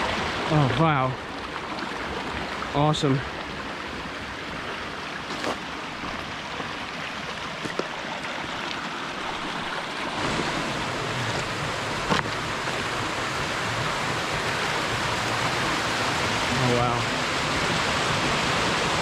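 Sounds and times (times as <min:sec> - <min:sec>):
water pouring down waterfall: 0:00.0 - 0:19.0.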